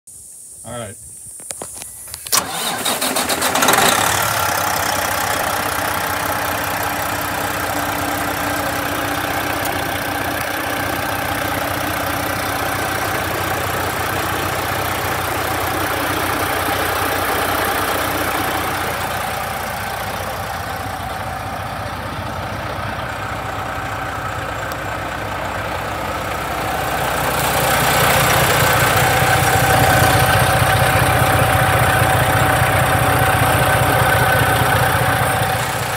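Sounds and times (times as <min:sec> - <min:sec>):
diesel truck engine starting and idling: 0:01.8 - 0:35.9.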